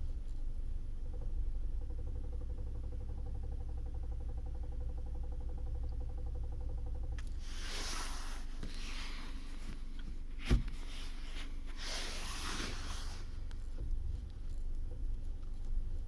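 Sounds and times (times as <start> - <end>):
car engine low hum: 0.0 - 16.0.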